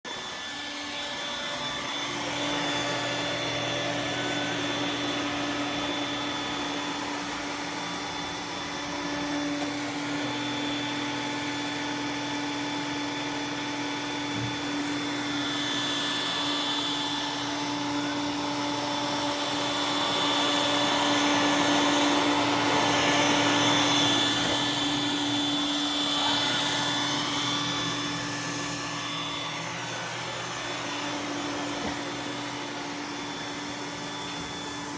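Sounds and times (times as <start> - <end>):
robot vacuum running: 0.1 - 34.9.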